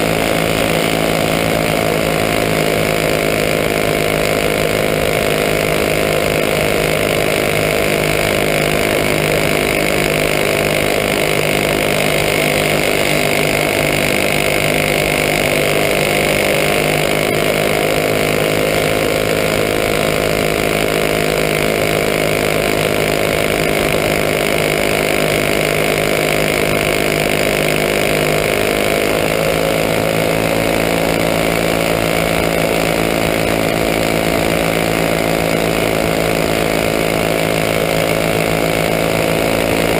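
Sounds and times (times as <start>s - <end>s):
kart engine buzzing: 0.0s - 39.9s.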